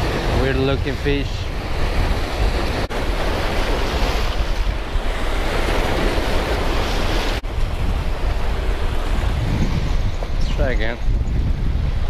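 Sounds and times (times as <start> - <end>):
waves breaking over rocks: 0.0 - 10.4
wind buffeting microphone: 0.0 - 12.0.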